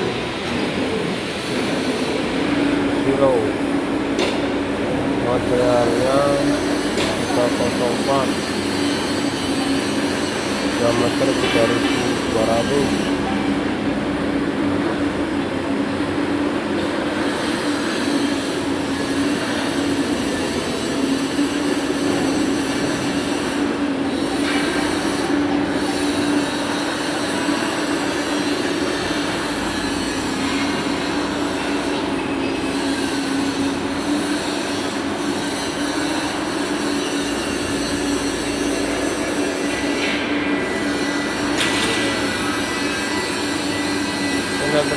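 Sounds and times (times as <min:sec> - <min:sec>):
workshop machinery hum: 0:00.0 - 0:44.9.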